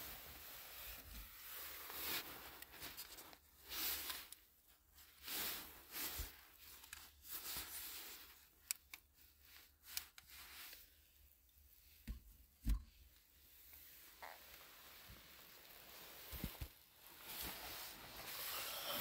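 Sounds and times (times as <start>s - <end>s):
faint rustling and handling: 0.0s - 19.0s.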